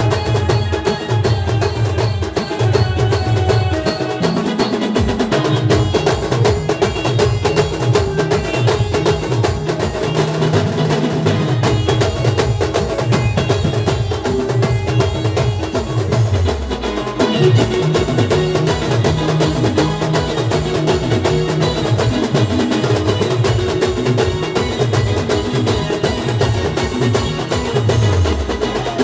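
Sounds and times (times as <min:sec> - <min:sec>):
band music with drums: 0:00.0 - 0:29.0.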